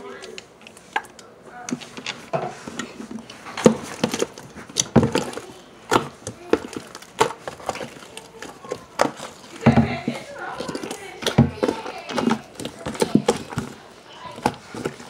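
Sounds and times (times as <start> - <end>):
slime clicking and knocking: 2.8 - 15.0.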